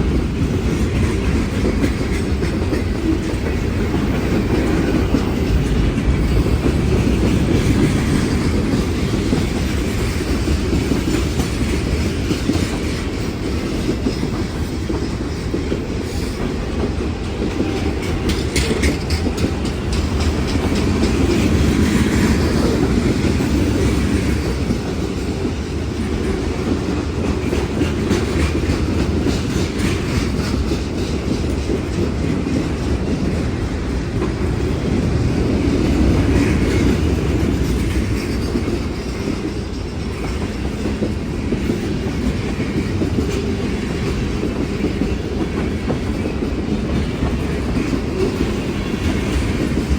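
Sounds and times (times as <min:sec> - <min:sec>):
train wheels rumbling on rails: 0:00.0 - 0:49.9
wheels clicking over rail joints: 0:00.0 - 0:49.9.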